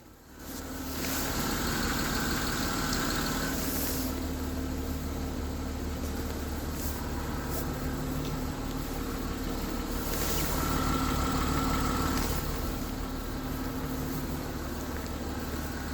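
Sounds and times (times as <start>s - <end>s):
car engine idling with ticking: 0.0s - 15.9s.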